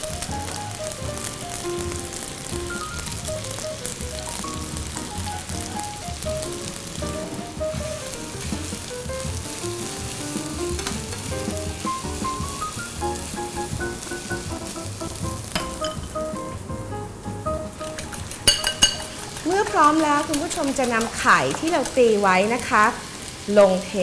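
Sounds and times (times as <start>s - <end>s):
noodles and shrimp sizzling in pan: 0.0s - 16.3s, 17.6s - 24.0s
background music: 0.0s - 24.0s.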